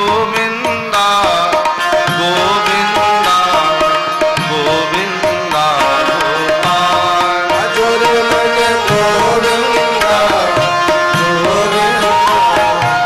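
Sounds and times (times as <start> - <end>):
hand drum percussion: 0.0 - 13.0.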